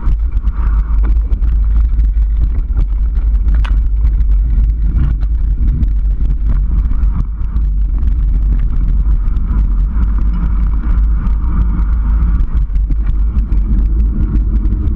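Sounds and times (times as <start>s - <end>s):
bike rattles and clicks: 0.0s - 14.9s
bike tyre noise: 0.0s - 14.9s
wind rumble on microphone: 0.0s - 14.9s.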